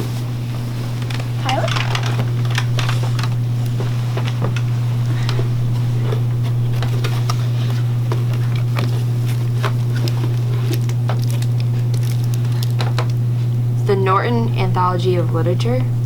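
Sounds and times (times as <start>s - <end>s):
paper crackling: 0.0s - 13.7s
steady low hum: 0.0s - 16.0s.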